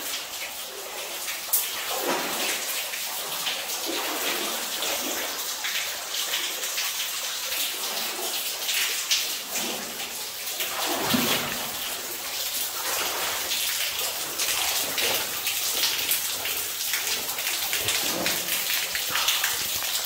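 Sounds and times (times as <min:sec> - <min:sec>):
water dripping into standing water: 0:00.0 - 0:20.0.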